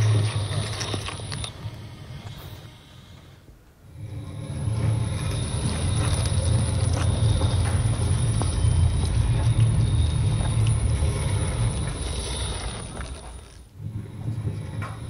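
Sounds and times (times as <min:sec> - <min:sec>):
robot vehicle tracks rumbling: 0:00.0 - 0:03.2, 0:03.9 - 0:15.0.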